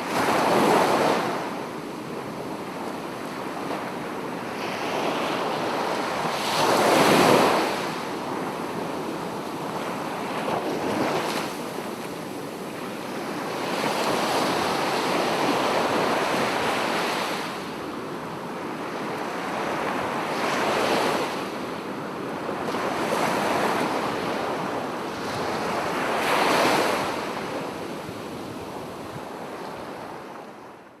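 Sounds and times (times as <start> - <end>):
sea waves breaking on a beach: 0.0 - 30.8.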